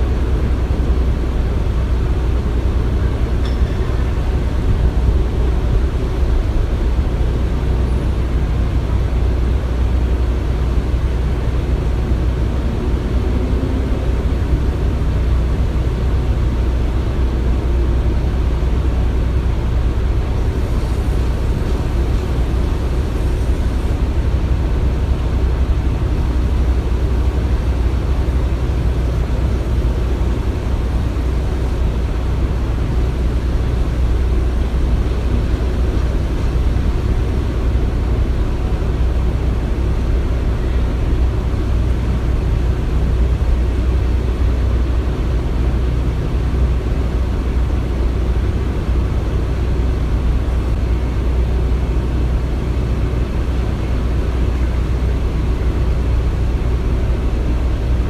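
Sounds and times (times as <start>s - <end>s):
construction machinery rumble: 0.0s - 58.0s.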